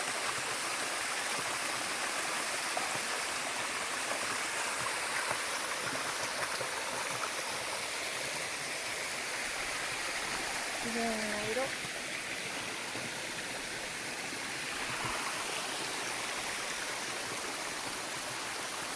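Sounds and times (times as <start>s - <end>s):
stream rushing over rock: 0.0s - 18.9s.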